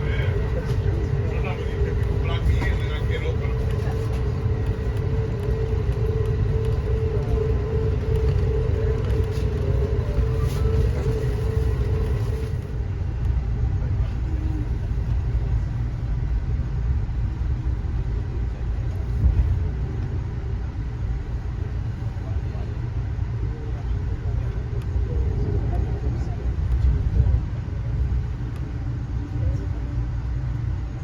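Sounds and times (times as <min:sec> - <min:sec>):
train low rumble: 0:00.0 - 0:31.0.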